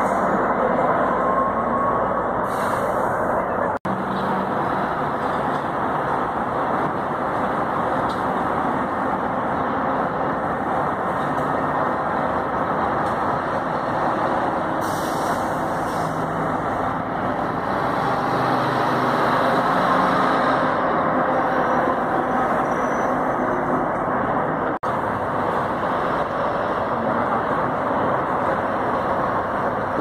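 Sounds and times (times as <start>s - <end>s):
bus engine humming: 0.0s - 30.0s
road noise: 0.0s - 30.0s.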